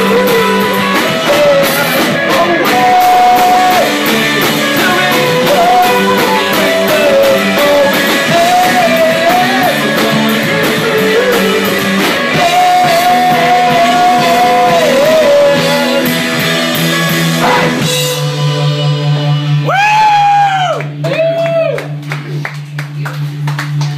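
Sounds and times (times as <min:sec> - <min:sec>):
live rock band playing: 0:00.0 - 0:21.3.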